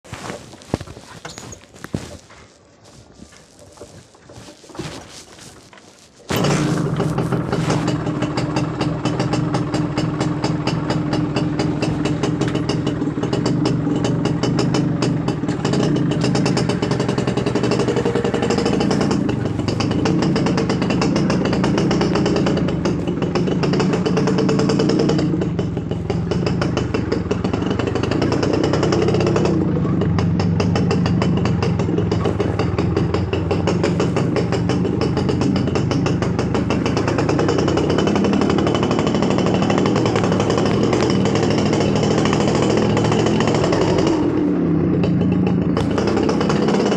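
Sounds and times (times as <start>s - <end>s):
motorcycle engine running: 2.8s - 46.9s.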